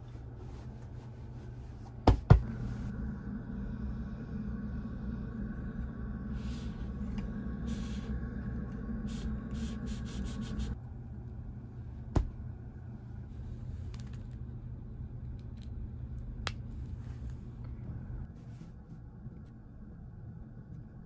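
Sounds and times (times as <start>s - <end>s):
air-conditioning vent hum and rush: 0.0s - 21.0s.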